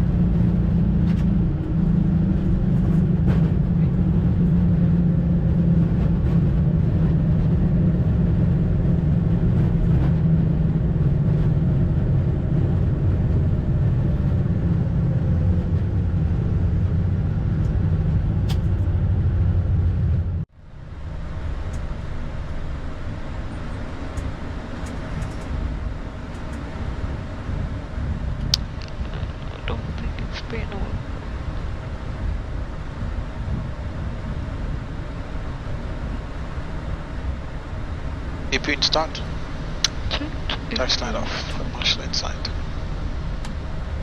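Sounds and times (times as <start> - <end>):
cockpit hum: 0.0 - 44.0
jet engine and airflow rumble: 0.0 - 44.0.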